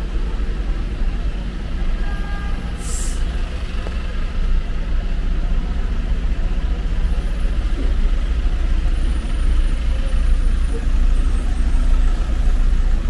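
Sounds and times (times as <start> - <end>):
slow city traffic rumble: 0.0 - 13.0.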